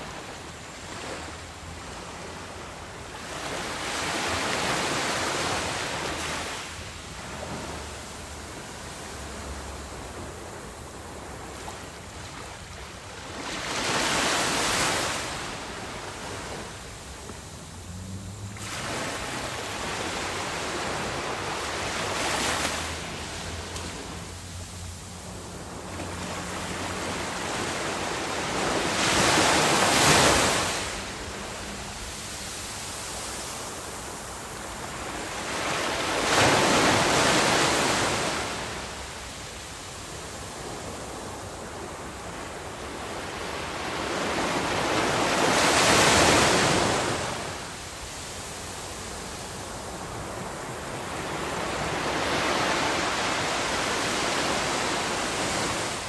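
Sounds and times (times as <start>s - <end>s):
ocean waves breaking: 0.0s - 39.4s, 40.4s - 56.0s
wash of surf: 0.0s - 56.0s.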